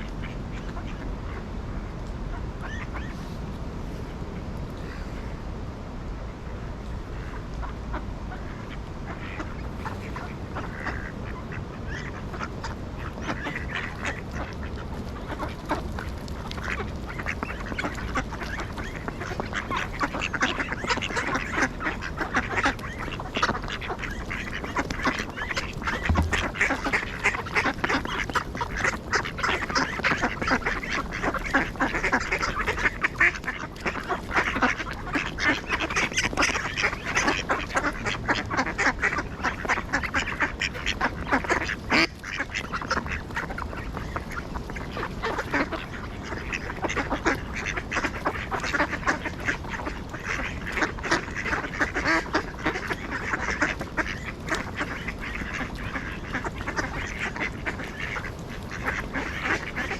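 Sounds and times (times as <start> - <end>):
ducks quacking: 0.0 - 5.4, 7.1 - 59.9.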